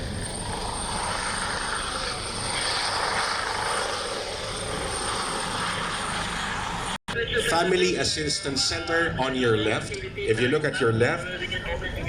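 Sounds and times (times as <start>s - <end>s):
aircraft engine rushing: 0.0s - 12.0s.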